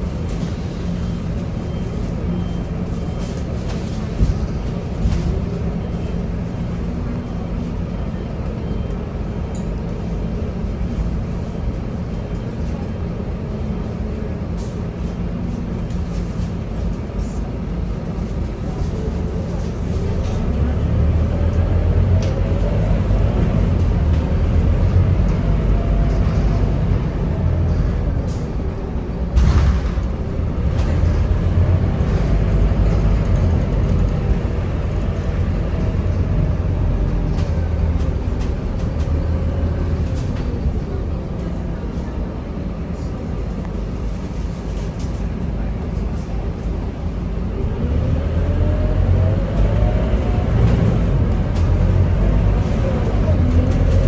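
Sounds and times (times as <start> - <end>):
bus diesel engine: 0.0 - 54.0.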